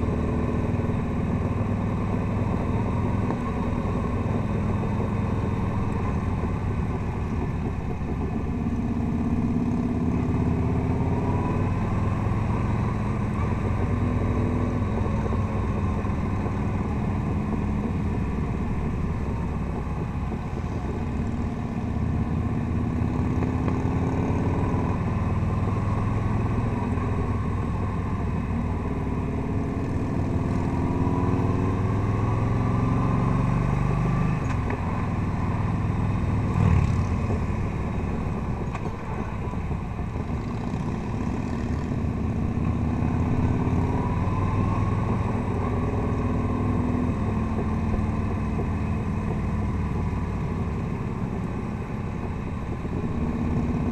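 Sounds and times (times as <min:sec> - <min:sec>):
motorcycle engine revving: 0:00.0 - 0:53.9
road and wind noise: 0:00.0 - 0:53.9.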